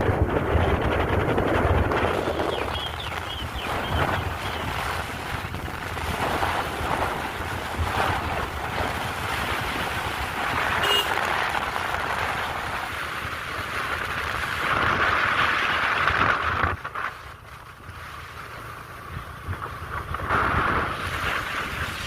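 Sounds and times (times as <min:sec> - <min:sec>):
wind buffeting microphone: 0:00.0 - 0:17.9
motorcycle engine: 0:00.0 - 0:22.0.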